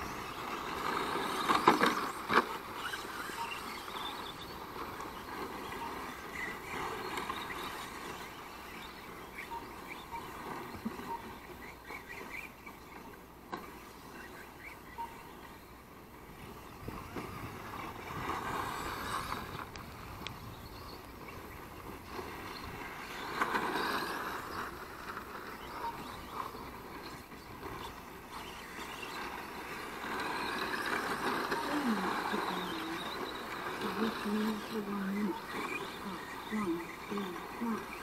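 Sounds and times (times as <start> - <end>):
model car motors passing: 0.0 - 15.6, 16.2 - 38.0.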